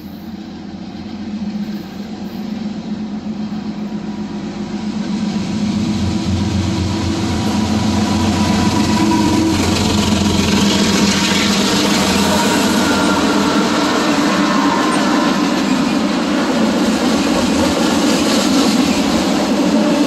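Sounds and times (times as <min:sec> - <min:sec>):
diesel locomotive engine drone: 0:00.0 - 0:20.0
wheel-on-rail rumble: 0:00.0 - 0:20.0.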